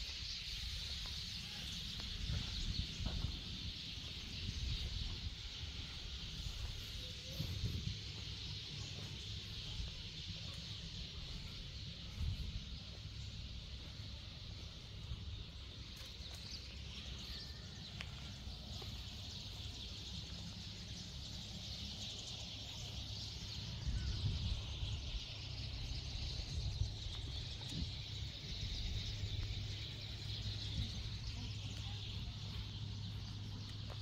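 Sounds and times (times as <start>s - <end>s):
constant low rumble: 0.0s - 34.0s.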